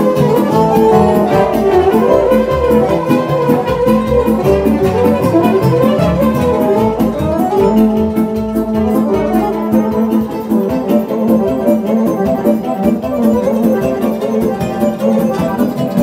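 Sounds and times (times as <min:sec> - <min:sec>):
accordion: 0:00.0 - 0:16.0
keyboard accompaniment: 0:00.0 - 0:16.0
live folk dance band: 0:00.0 - 0:16.0
steady dance beat: 0:00.0 - 0:16.0
trumpet: 0:00.0 - 0:16.0
violin: 0:00.0 - 0:16.0.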